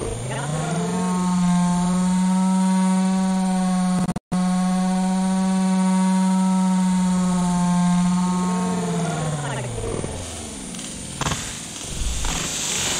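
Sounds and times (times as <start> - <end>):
chainsaw revving high-pitched whine: 0.0 - 12.9.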